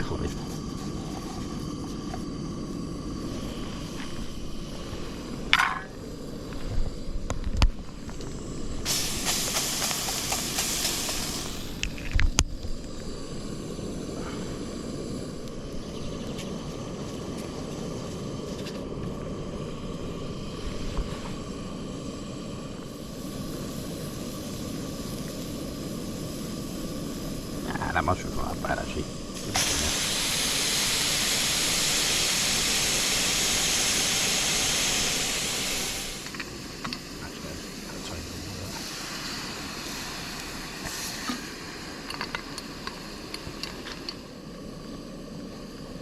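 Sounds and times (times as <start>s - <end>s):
stove burner rushing: 0.0s - 46.0s
mushrooms sizzling in a pan: 1.0s - 46.0s.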